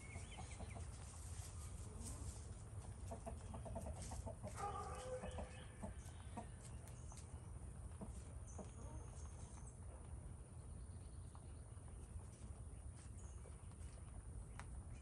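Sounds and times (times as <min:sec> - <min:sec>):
rabbits rustling on straw: 0:00.0 - 0:15.0.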